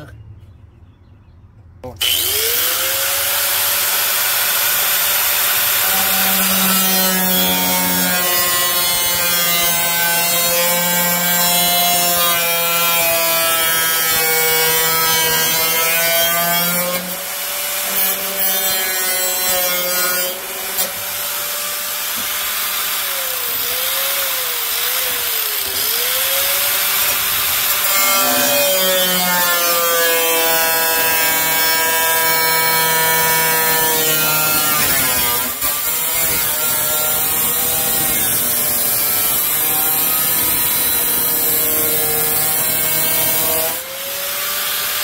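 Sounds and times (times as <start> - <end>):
angle grinder cutting steel: 2.0 - 45.0.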